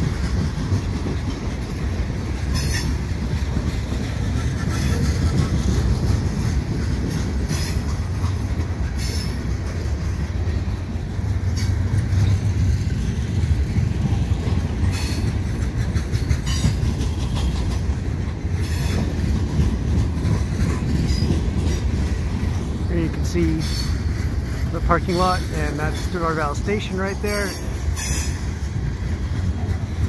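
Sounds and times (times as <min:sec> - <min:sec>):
freight train rolling past: 0:00.0 - 0:30.0
wheels clacking over track: 0:00.0 - 0:30.0.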